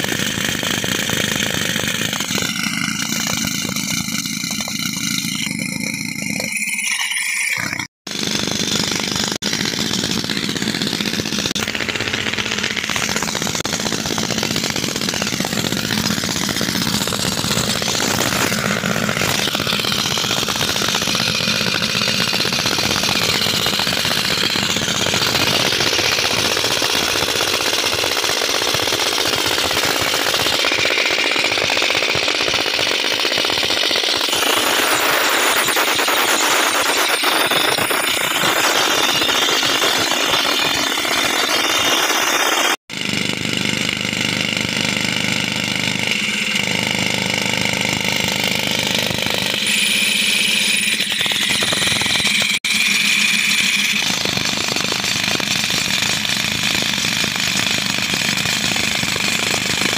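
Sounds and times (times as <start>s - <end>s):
rock drill hammering: 0.0s - 59.9s.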